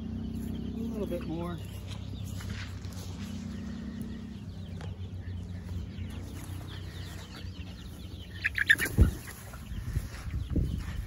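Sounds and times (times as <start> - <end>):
chicks peeping and clucking: 0.0 - 11.0.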